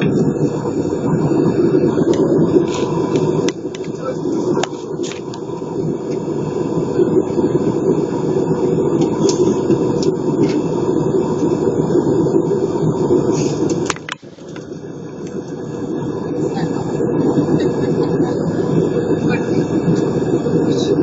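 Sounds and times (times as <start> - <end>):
airliner cabin engine noise: 0.0 - 21.0.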